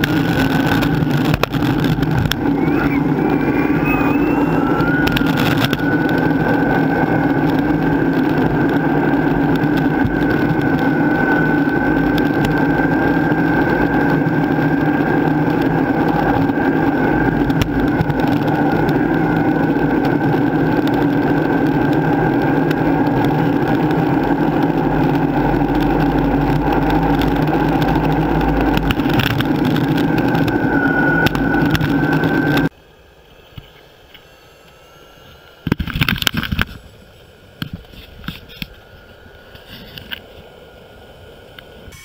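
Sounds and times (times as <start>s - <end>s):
wheels rumbling on asphalt: 0.0s - 34.2s, 35.4s - 42.0s
electric motor whine: 0.1s - 40.2s.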